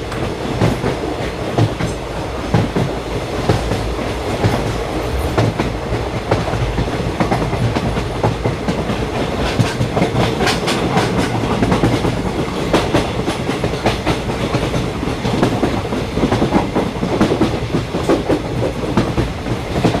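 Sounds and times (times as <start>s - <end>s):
train rumbling along track: 0.0s - 20.0s.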